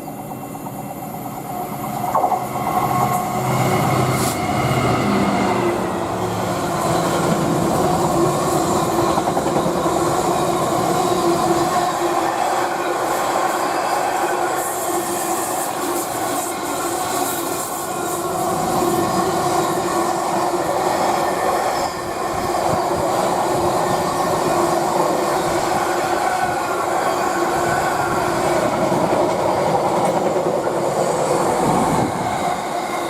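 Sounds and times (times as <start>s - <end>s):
freight train rolling past: 0.0s - 33.0s.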